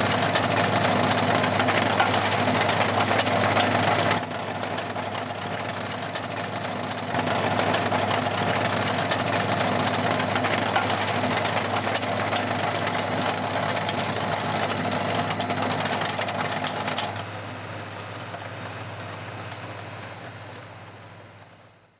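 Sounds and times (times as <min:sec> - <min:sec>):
tractor engine running: 0:00.0 - 0:21.7.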